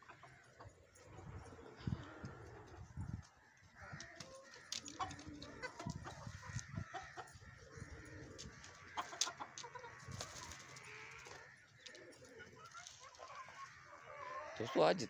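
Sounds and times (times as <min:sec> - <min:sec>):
chickens clucking faintly: 0:00.0 - 0:15.0.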